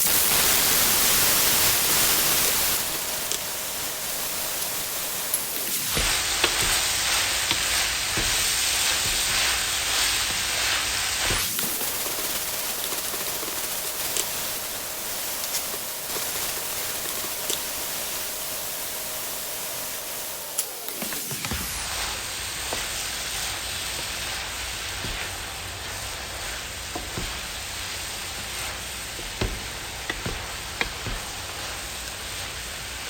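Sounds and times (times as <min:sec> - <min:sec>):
food sizzling in a frying pan: 0:00.0 - 0:33.0.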